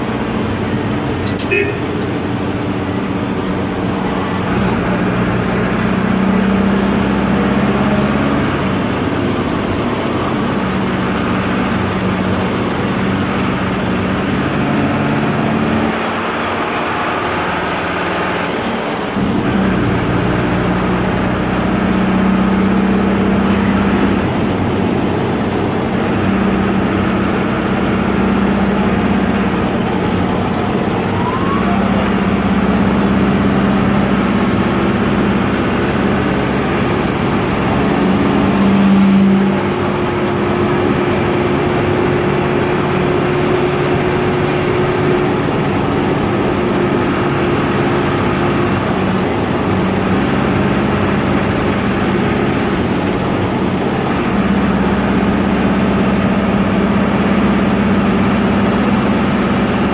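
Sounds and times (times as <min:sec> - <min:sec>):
diesel engine droning from cab: 0:00.0 - 0:59.9.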